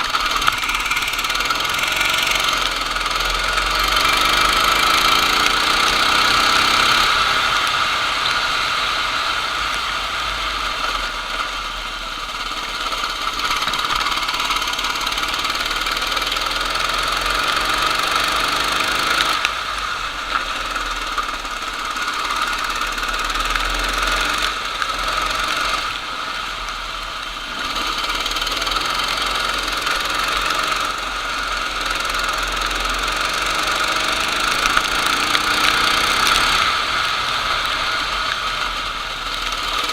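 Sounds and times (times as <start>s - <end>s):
racing kart engine buzzing: 0.0s - 39.9s.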